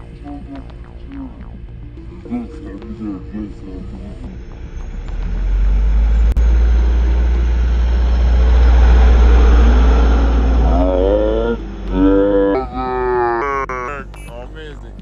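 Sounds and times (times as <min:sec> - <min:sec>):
wavering pitched sound: 0:00.0 - 0:05.1, 0:06.2 - 0:14.3
off-road vehicle engine rumbling: 0:01.9 - 0:15.0.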